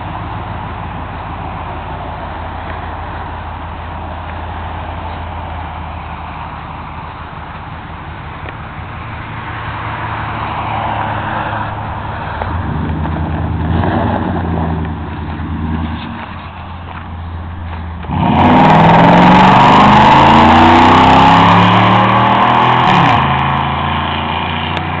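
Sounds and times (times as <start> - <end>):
truck engine accelerating: 0.0 - 25.0.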